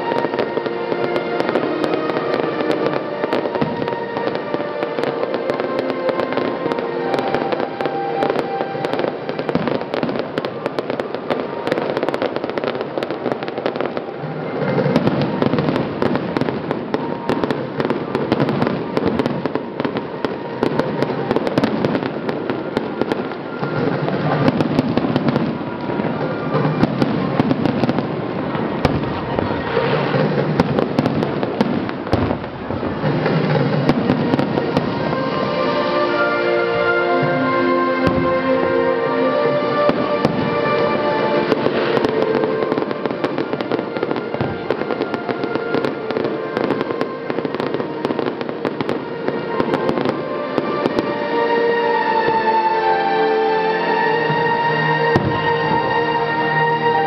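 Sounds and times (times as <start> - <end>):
fireworks popping and crackling: 0.0 - 52.8, 55.1 - 56.0
music: 0.0 - 57.0.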